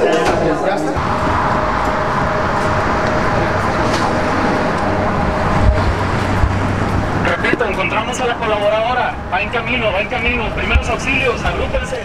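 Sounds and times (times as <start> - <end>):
street traffic rush: 0.0 - 12.0.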